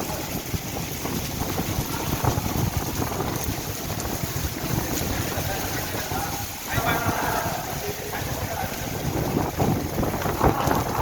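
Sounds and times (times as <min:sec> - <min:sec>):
heavy rain pouring: 0:00.0 - 0:11.0
wind buffeting microphone: 0:00.0 - 0:11.0.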